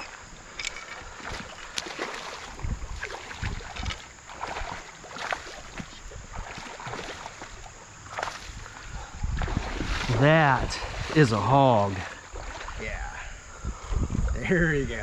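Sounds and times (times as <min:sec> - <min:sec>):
wading through creek water: 0:00.0 - 0:14.5.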